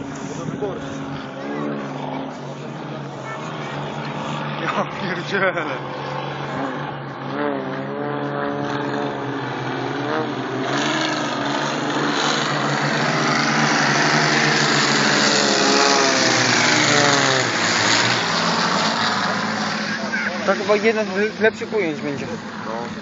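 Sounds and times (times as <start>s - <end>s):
plane passing overhead: 0.0s - 23.0s
propeller plane engine hum: 0.0s - 23.0s.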